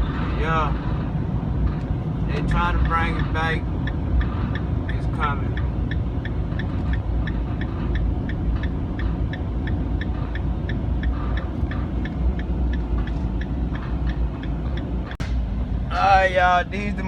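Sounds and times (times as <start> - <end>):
car driving rumble: 0.0 - 17.0
dashboard ticking: 0.5 - 15.3.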